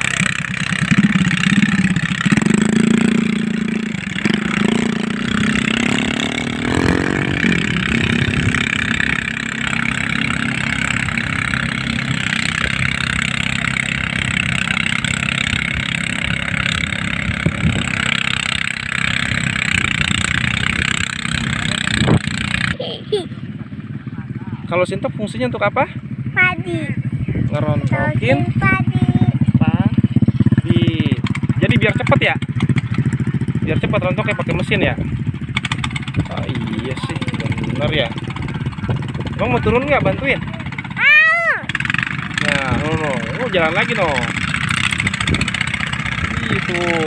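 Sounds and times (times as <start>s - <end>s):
tiller engine running: 0.0s - 24.2s, 26.0s - 47.0s.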